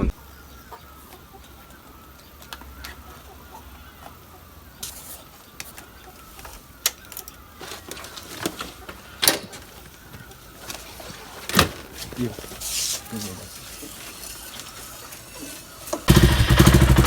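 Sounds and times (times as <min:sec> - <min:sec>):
chickens clucking: 0:00.0 - 0:16.6.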